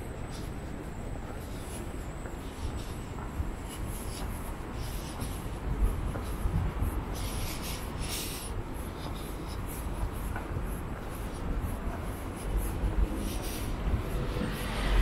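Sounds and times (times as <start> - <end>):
low city rumble: 0.0 - 15.0
scuffing and rubbing noises: 0.0 - 15.0.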